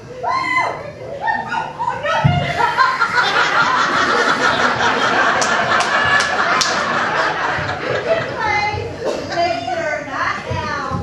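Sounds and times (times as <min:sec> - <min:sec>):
audience laughing: 0:01.1 - 0:10.0.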